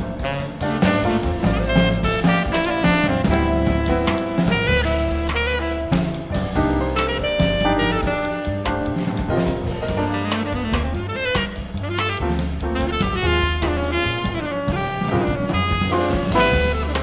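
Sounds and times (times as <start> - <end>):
drum kit: 0.0 - 17.0
jazz ensemble playing: 0.0 - 17.0
low bass notes: 0.0 - 17.0
saxophone and brass lines: 0.2 - 6.2, 7.0 - 8.7, 9.9 - 17.0.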